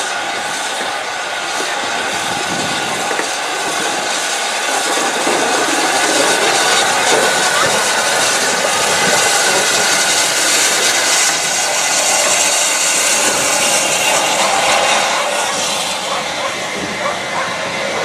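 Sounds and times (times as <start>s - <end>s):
steam train rolling past: 0.0s - 18.0s.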